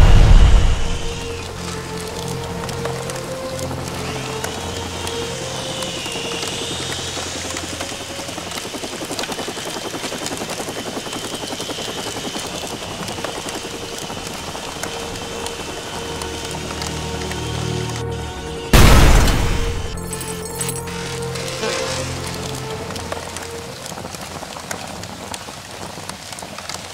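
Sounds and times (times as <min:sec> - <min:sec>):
helicopter rotor noise: 0:00.0 - 0:26.4.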